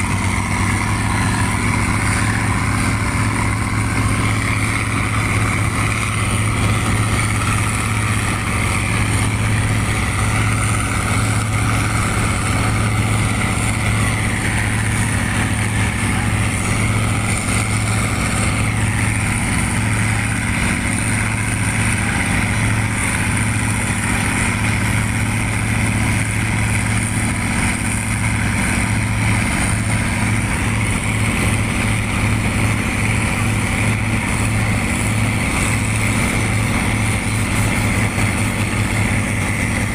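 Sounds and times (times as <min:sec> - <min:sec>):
motorboat engine droning: 0:00.0 - 0:39.9
water rushing along hull: 0:00.0 - 0:39.9.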